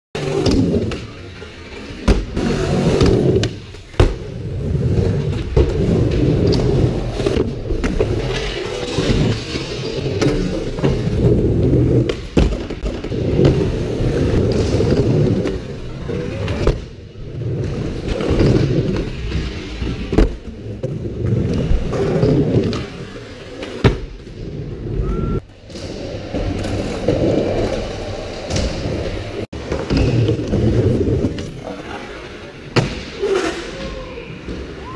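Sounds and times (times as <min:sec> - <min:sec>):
skateboard wheels rolling: 0:00.2 - 0:34.9.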